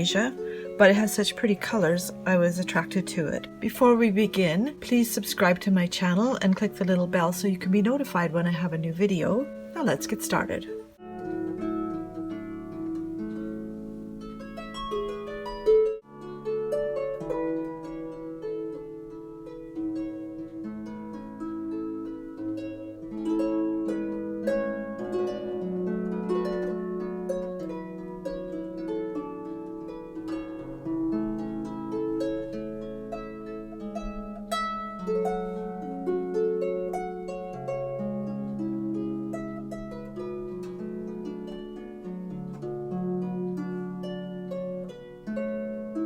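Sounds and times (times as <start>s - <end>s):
harp music: 0.0s - 46.0s.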